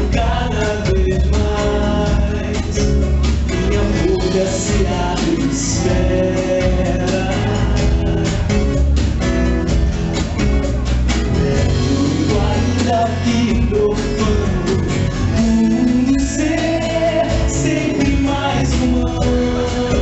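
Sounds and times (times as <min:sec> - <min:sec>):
acoustic guitar and band: 0:00.0 - 0:20.0.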